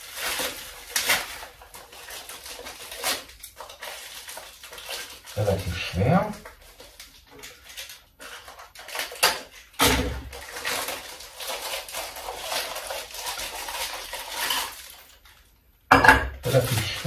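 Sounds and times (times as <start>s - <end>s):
plastic packaging crinkling: 0.0s - 15.8s, 16.4s - 17.0s.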